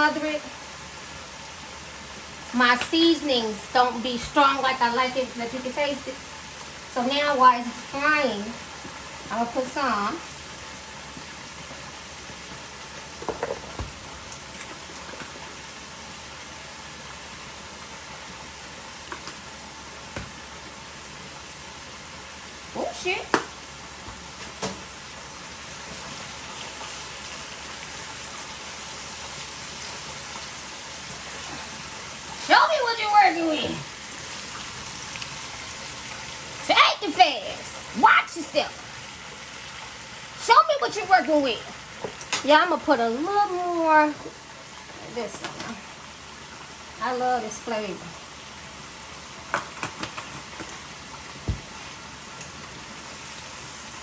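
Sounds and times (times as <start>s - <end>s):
food frying in hot oil: 0.0s - 54.0s
vegetables sizzling in a pan: 0.0s - 54.0s.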